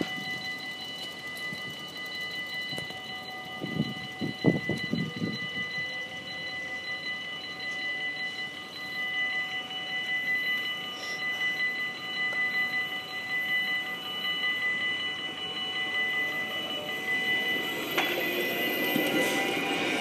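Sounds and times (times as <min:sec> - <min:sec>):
railroad crossing bell ringing: 0:00.0 - 0:20.0.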